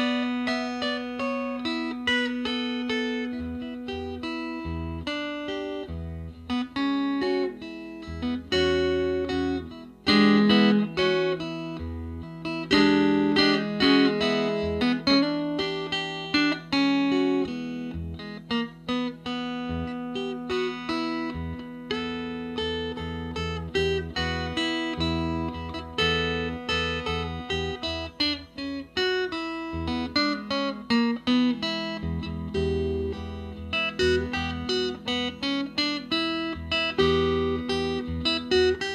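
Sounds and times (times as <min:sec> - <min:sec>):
slide guitar fingerpicked: 0:00.0 - 0:38.9.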